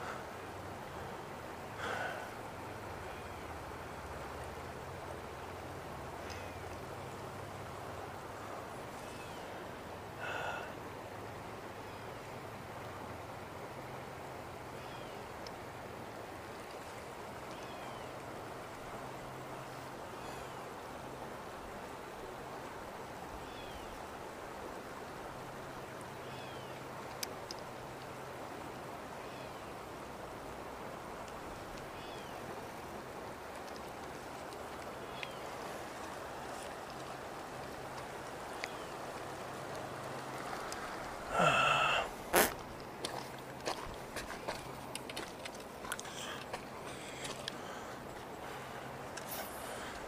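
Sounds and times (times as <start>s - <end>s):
river flowing: 0.0s - 50.0s.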